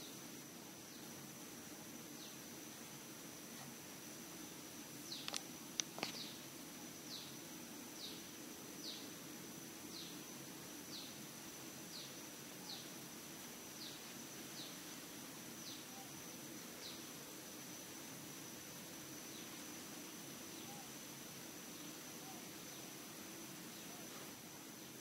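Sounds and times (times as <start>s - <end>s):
high insect whine: 0.0s - 25.0s.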